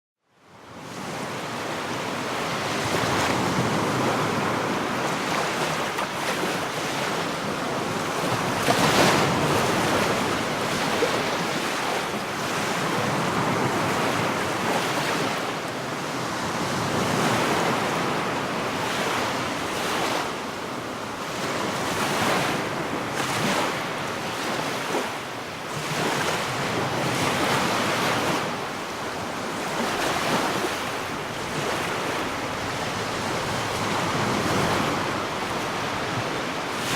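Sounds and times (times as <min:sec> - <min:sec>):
waves breaking on a beach: 0:00.4 - 0:36.9.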